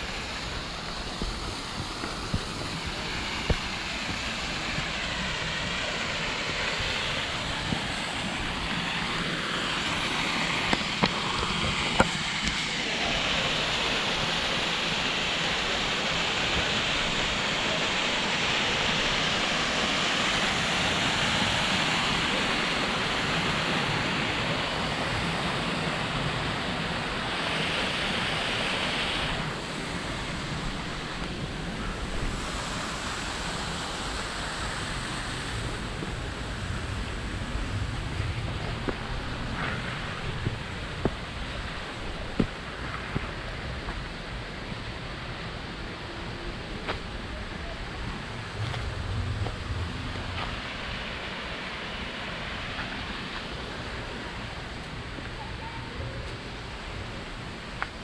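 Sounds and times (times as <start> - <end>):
waterfall rushing: 0.0 - 57.8.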